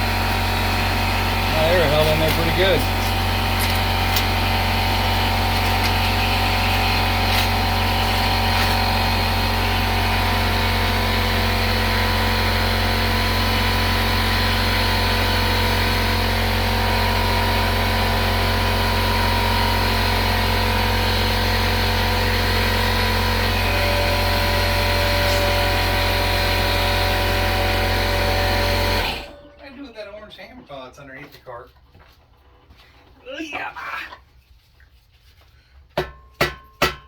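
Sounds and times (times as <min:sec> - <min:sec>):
machine hum: 0:00.0 - 0:30.4.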